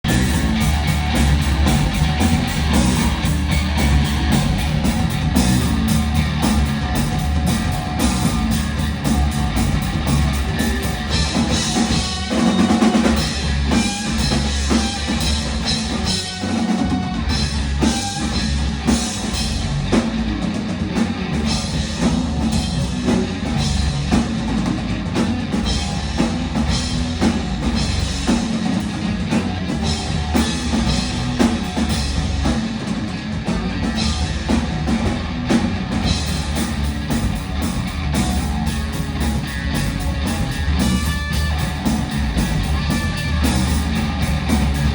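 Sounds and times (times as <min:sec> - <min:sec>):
bass guitar: 0:00.0 - 0:44.9
drum kit beat: 0:00.0 - 0:44.9.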